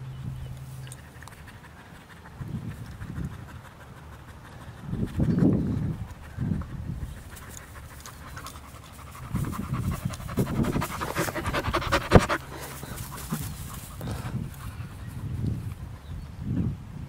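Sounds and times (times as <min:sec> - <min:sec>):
dog panting rapidly: 0:01.0 - 0:15.0.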